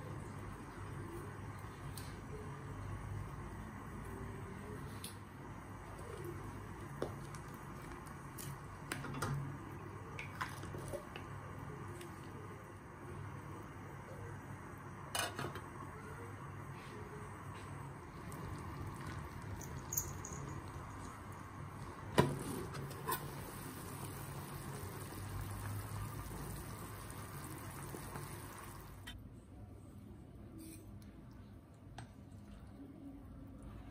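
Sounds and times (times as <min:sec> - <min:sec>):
soup boiling in a saucepan: 0:00.0 - 0:29.2.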